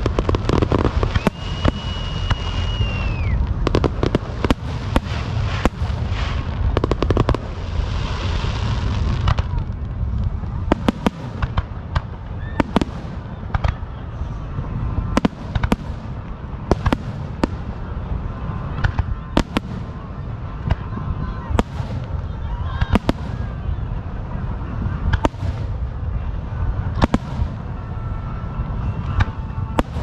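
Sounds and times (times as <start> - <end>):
descending firework whistle: 0.0 - 9.7, 12.2 - 24.0, 24.8 - 30.0
firework crackle: 0.0 - 30.0
fireworks bangs: 0.0 - 30.0
low rumble: 0.0 - 30.0.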